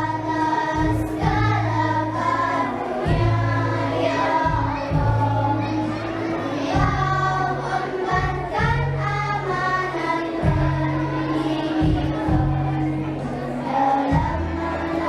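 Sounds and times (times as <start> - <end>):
children's choir singing: 0.0 - 15.0
musical accompaniment: 0.0 - 15.0.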